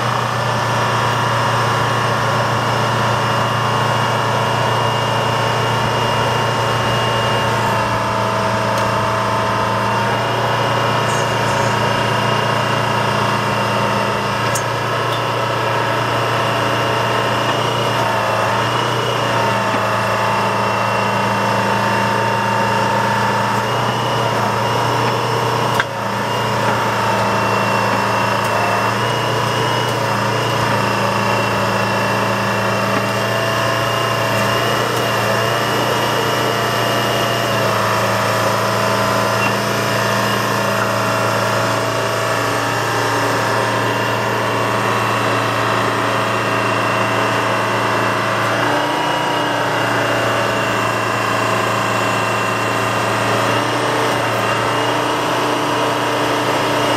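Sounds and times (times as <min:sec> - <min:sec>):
excavator diesel engine running: 0:00.0 - 0:56.9
high whine: 0:03.2 - 0:53.5.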